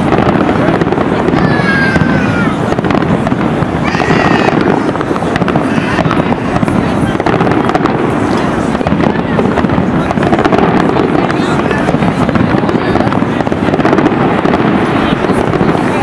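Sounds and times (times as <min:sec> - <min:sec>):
firework shells bursting and crackling: 0:00.0 - 0:16.0.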